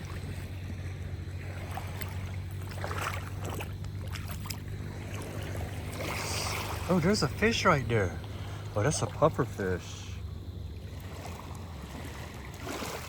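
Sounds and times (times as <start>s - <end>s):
motor humming: 0.0s - 12.6s
light water noise: 0.0s - 13.0s.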